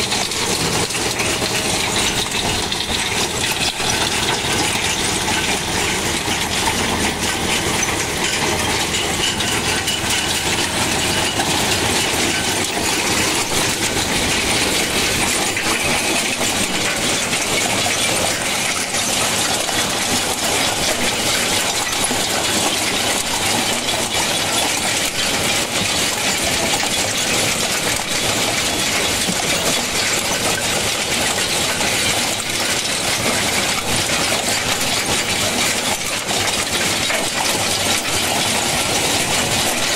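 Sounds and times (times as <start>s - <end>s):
stones rattling on conveyor: 0.0s - 39.9s
tractor engine under load: 0.0s - 39.9s.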